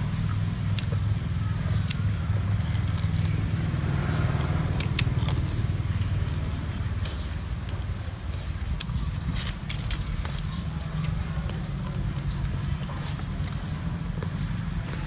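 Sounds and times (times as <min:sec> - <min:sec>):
chewing rice cakes: 0:00.3 - 0:15.0.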